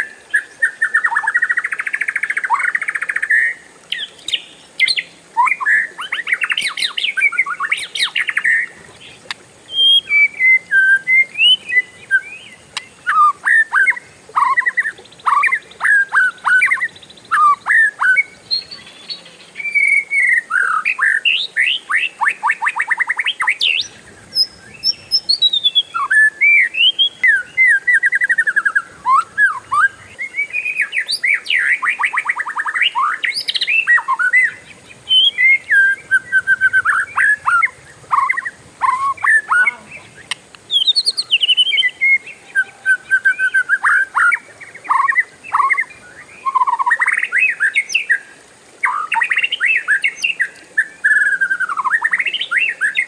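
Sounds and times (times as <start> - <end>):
songbird singing trills and whistles: 0.0 - 53.0.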